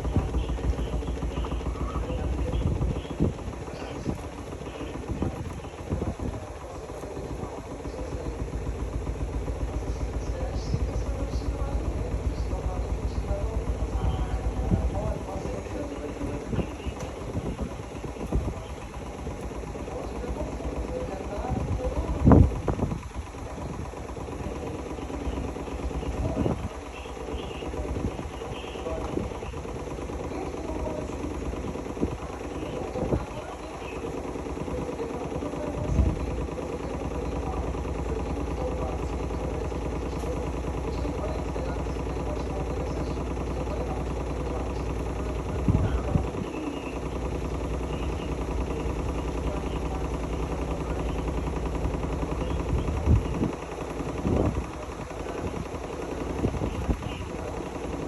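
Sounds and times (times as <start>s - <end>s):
washing machine running: 0.0s - 58.0s.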